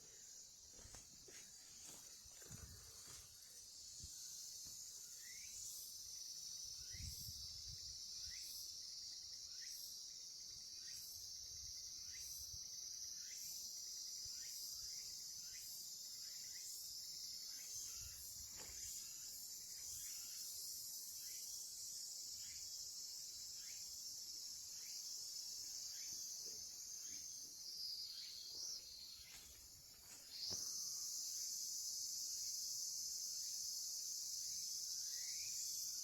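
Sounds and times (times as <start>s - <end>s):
insects buzzing in chorus: 0.0s - 36.0s
short insect chirp: 0.0s - 36.0s.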